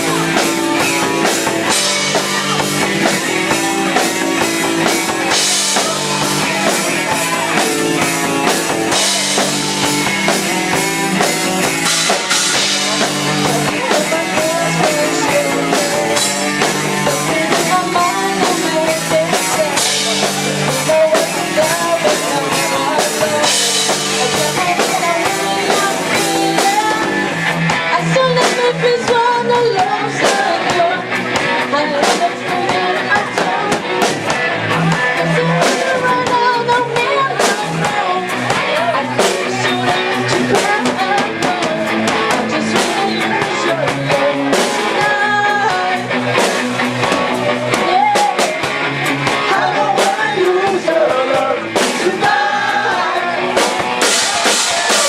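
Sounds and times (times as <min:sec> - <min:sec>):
lead vocal singing: 0:00.0 - 0:55.0
rock band playing live: 0:00.0 - 0:55.0.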